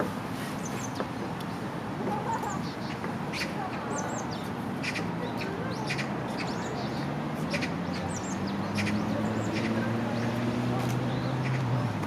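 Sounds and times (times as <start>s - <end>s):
small birds chirping: 0.6s - 1.1s, 2.2s - 12.0s.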